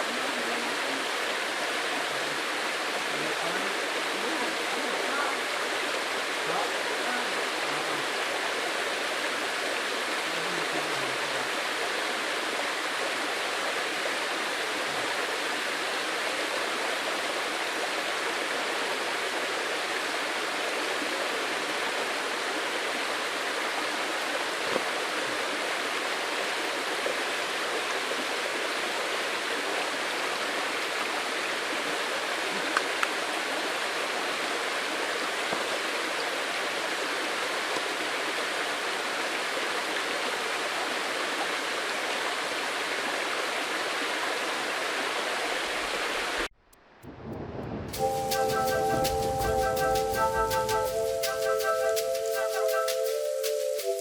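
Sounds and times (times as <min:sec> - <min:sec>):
stream water rushing: 0:00.0 - 0:46.5, 0:47.9 - 0:54.0.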